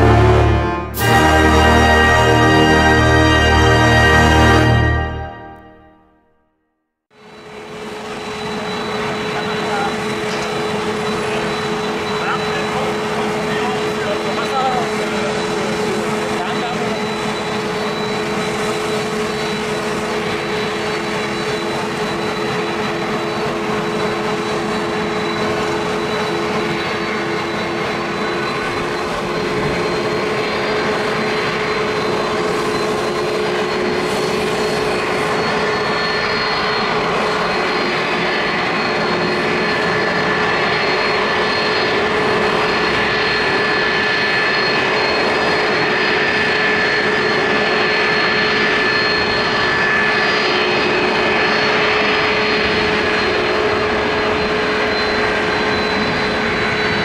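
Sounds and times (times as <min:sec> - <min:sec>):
jet engines running: 0:00.0 - 0:05.9, 0:07.2 - 0:57.0
steady whine: 0:00.0 - 0:06.2, 0:07.2 - 0:57.0
higher whine: 0:00.0 - 0:06.6, 0:07.2 - 0:57.0.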